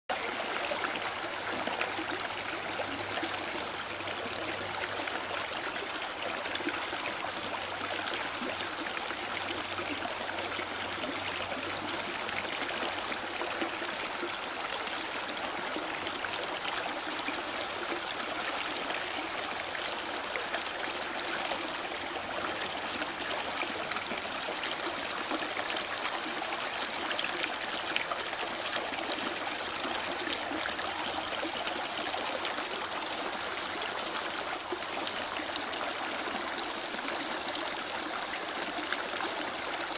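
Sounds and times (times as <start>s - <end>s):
stream running over stones: 0.1s - 39.9s.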